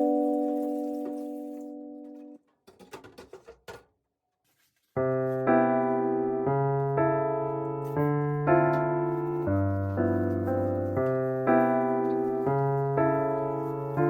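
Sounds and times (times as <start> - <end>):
electric piano tune: 0.0 - 2.4, 5.0 - 14.0.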